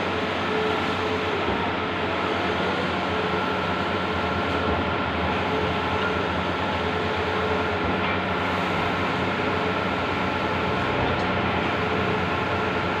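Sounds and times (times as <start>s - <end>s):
printing machine whirring and humming: 0.0s - 13.0s.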